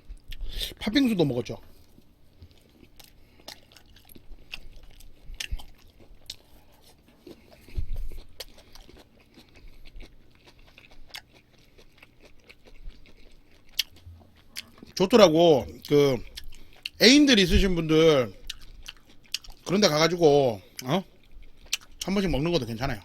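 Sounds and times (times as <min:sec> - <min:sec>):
close chewing with mouth clicks: 0:01.7 - 0:17.0, 0:18.3 - 0:23.0.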